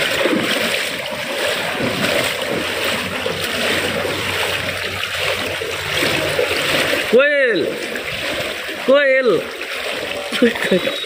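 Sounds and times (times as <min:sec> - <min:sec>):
floodwater sloshing and splashing: 0:00.0 - 0:11.0.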